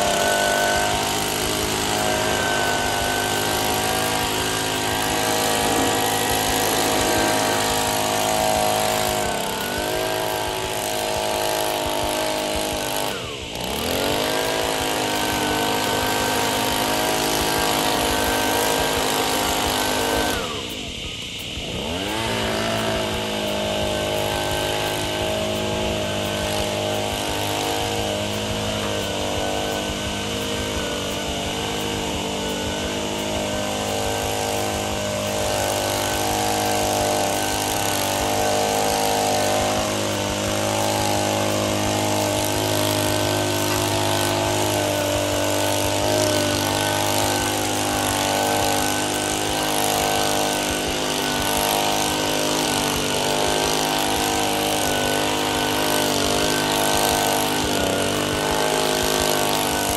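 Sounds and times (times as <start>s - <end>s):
rushing hiss: 0.0s - 59.9s
small petrol engine running: 0.0s - 59.9s.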